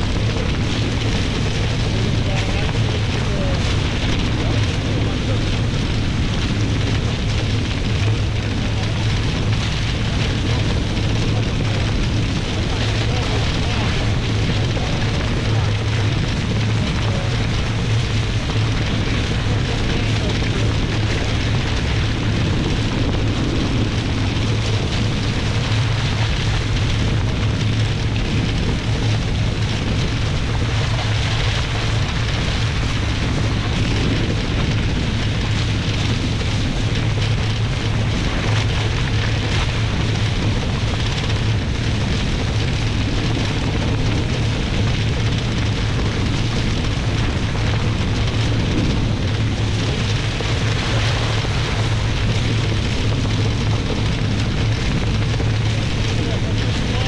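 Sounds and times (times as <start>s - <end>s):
water rushing past hulls: 0.0s - 57.0s
wind rumbling on microphone: 0.0s - 57.0s.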